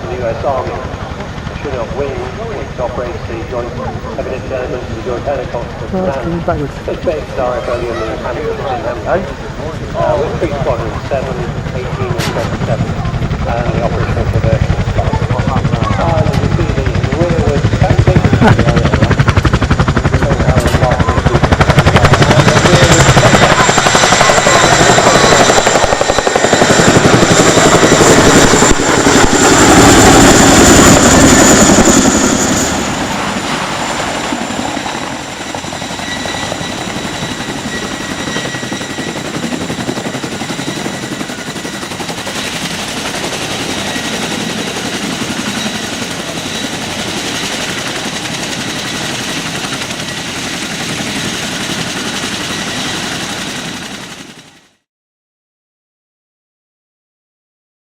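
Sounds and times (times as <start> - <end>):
helicopter rotor chop: 0.0 - 54.8.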